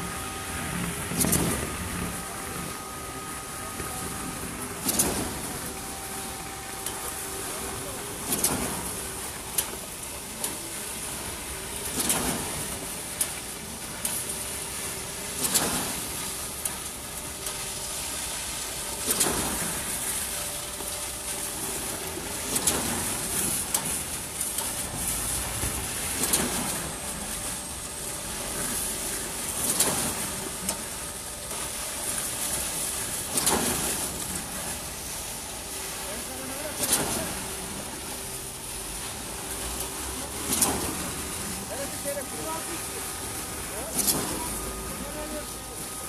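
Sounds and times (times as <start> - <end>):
concrete pump surging: 0.0 - 46.0.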